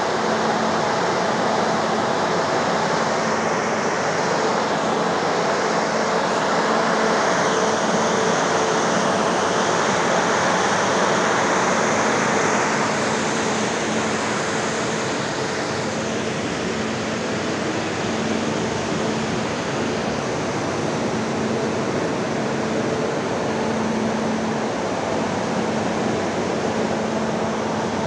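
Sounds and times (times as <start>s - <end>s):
burner fans blowing air: 0.0s - 28.0s.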